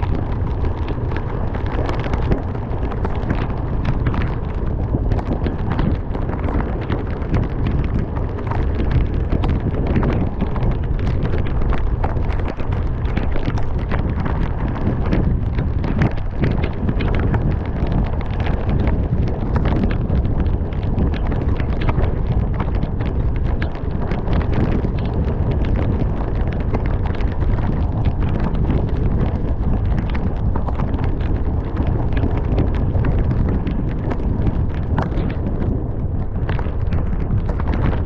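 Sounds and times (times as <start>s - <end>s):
heavy rain drops hitting: 0.0s - 38.0s
wind and tyres on wet road: 0.0s - 38.0s.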